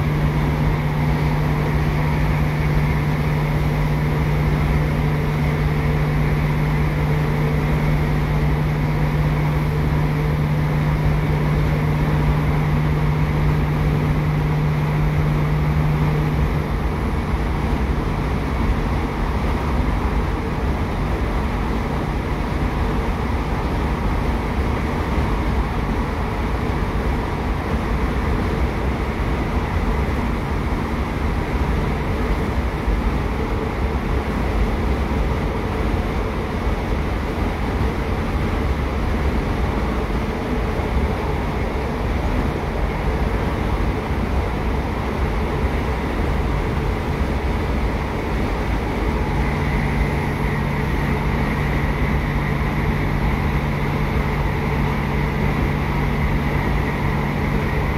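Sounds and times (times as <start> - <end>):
steady low hum: 0.0 - 57.9
train diesel engine drone: 0.0 - 57.9.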